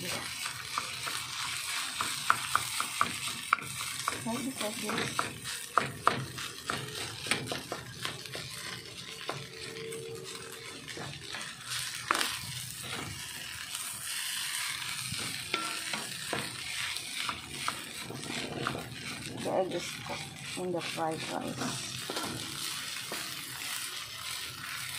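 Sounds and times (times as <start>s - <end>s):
faint sizzle of frying rice: 0.0s - 24.9s
spatula scraping metal wok: 0.0s - 24.9s.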